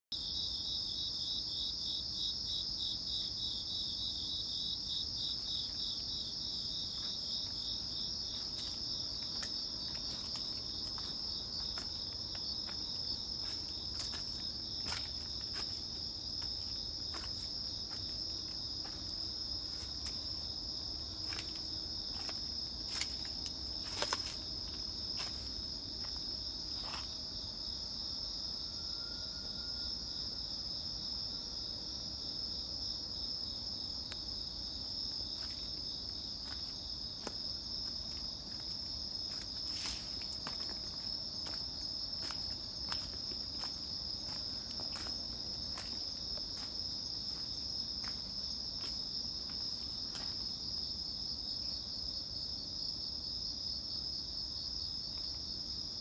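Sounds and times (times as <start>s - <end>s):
crickets chirping: 0.1s - 56.0s.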